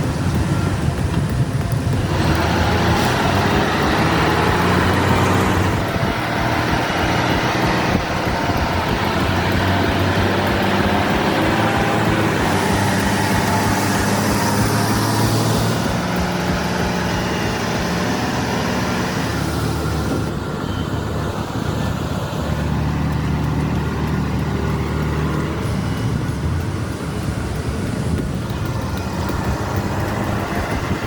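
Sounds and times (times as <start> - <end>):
road noise: 0.0 - 31.0
truck diesel engines droning: 0.0 - 31.0.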